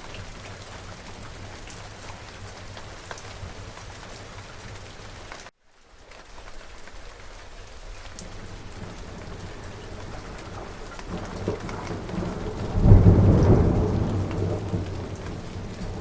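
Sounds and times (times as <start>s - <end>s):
rain falling on a surface: 0.0s - 16.0s
raindrop ticks: 0.0s - 16.0s.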